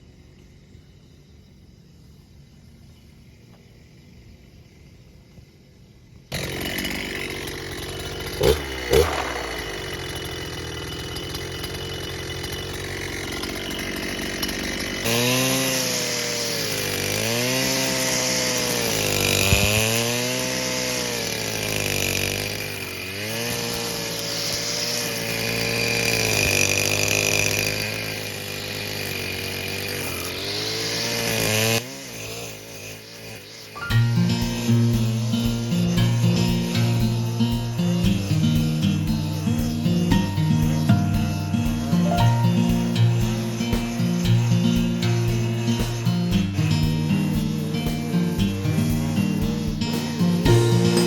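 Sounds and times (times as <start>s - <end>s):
brush cutter cutting grass: 6.3s - 51.0s.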